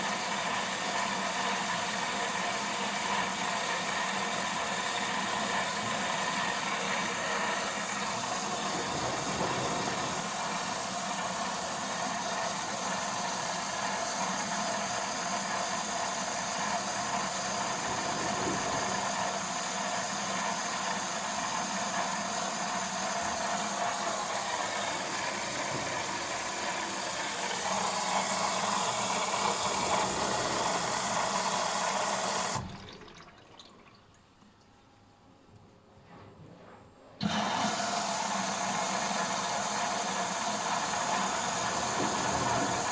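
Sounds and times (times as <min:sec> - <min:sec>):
water rushing into washing machine: 0:00.0 - 0:34.5, 0:37.2 - 0:42.9.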